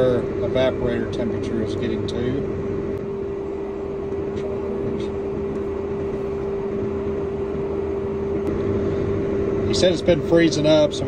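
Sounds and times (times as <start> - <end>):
steady machine drone with tone: 0.0 - 11.0.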